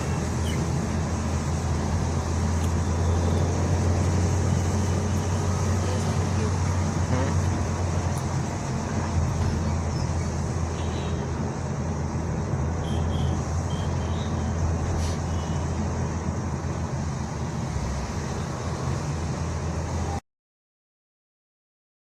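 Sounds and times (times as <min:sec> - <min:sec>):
road and engine rumble: 0:00.0 - 0:20.2.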